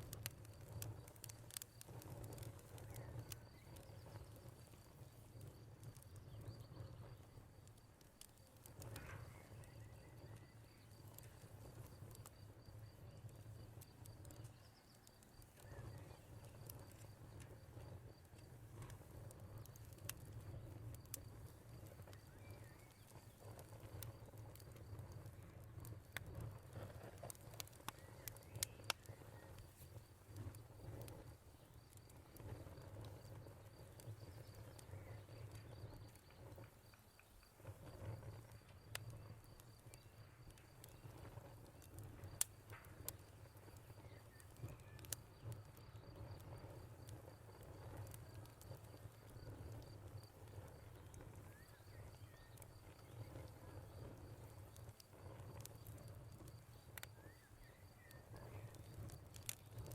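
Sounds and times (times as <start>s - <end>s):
wood fire crackling and popping: 0.0s - 59.9s
cricket chirping: 0.2s - 59.9s.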